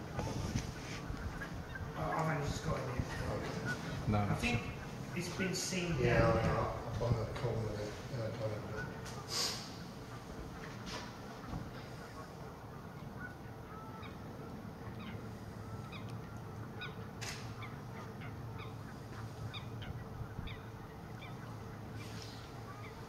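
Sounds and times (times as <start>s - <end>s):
faint bird calls: 0.0s - 23.0s
outdoor background noise: 0.0s - 23.0s.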